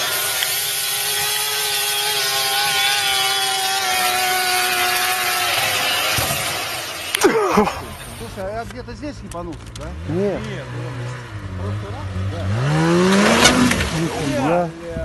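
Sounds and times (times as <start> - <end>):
snowmobile engine whining: 0.0 - 15.0.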